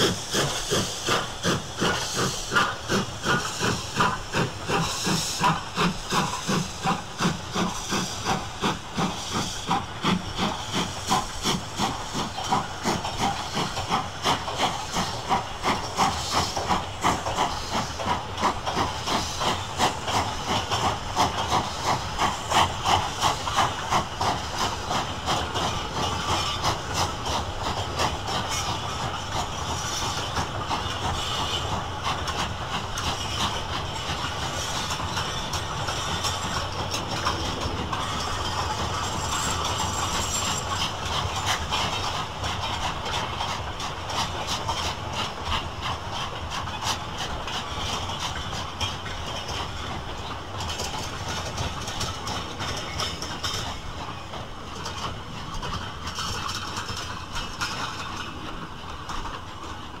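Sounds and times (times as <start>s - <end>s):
steam hiss: 0.0s - 60.0s
steam locomotive exhaust chuffs: 0.0s - 60.0s.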